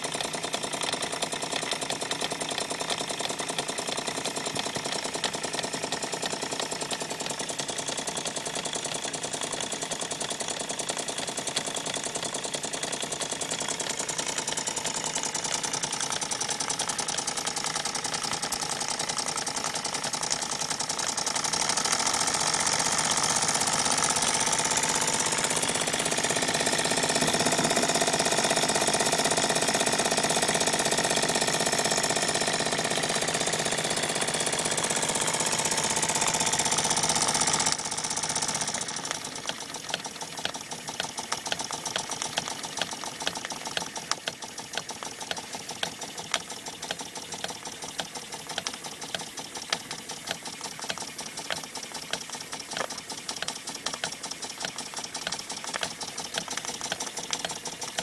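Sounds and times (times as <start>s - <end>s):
model steam engine clattering: 0.0s - 58.0s.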